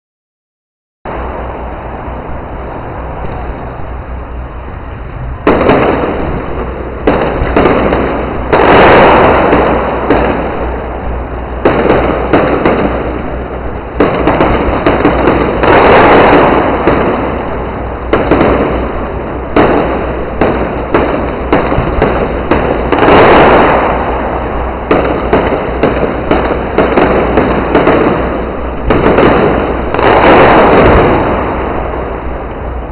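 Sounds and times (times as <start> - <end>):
fireworks bursting with echo: 1.1 - 32.9.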